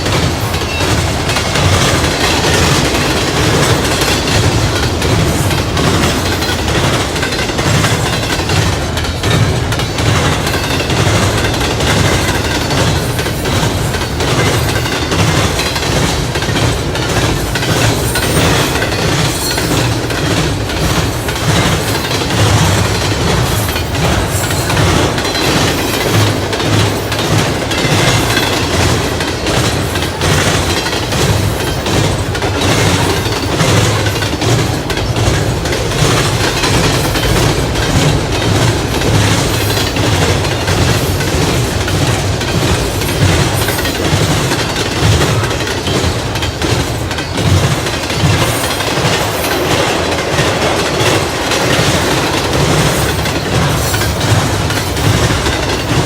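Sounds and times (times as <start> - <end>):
freight train rumbling: 0.0 - 56.0
wheels clacking over rail joints: 0.0 - 56.0.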